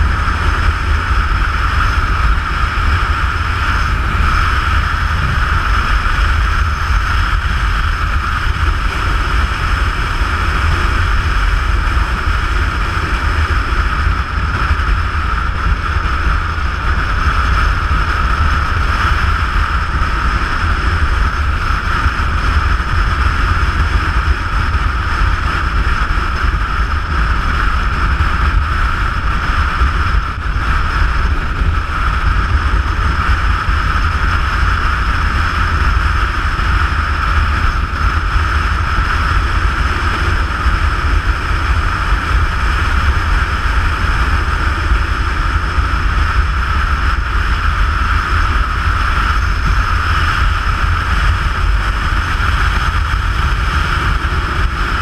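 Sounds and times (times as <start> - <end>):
motorcycle engine rumble: 0.0 - 55.0
wind rush: 0.0 - 55.0.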